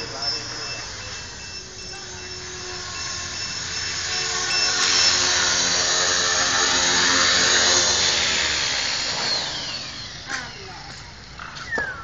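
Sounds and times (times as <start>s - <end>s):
rc helicopter rotor whining: 0.0s - 12.0s.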